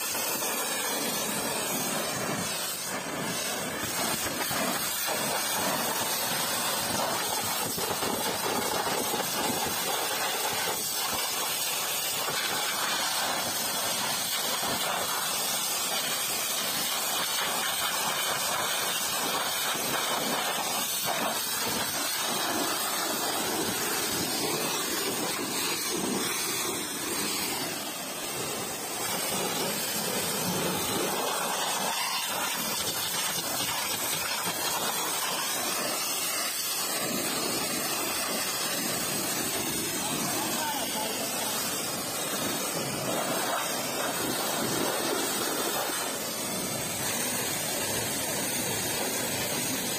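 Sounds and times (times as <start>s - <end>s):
pressure washer spraying water: 0.0s - 49.9s.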